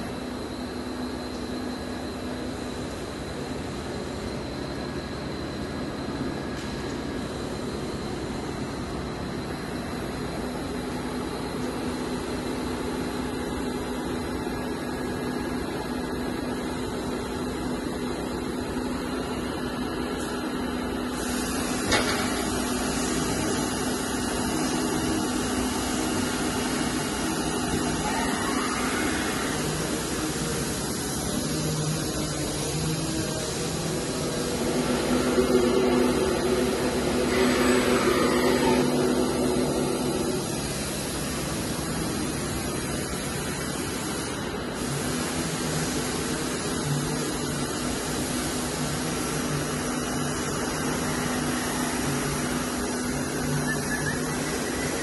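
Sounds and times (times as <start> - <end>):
lathe hum and hiss: 0.0 - 55.0.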